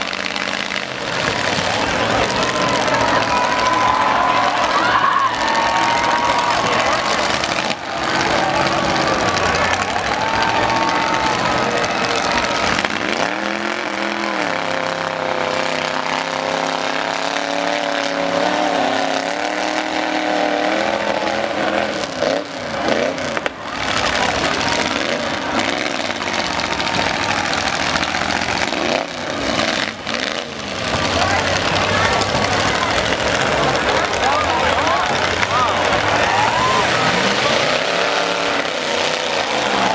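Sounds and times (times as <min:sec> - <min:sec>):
crowd noise: 0:00.0 - 0:39.9
truck engines revving: 0:00.0 - 0:39.9.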